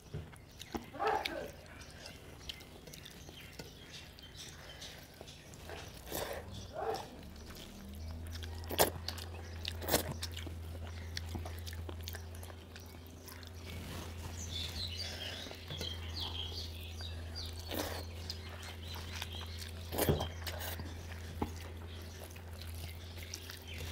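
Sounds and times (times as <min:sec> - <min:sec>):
people chewing food: 0:00.0 - 0:23.9
steady low hum: 0:00.0 - 0:23.9.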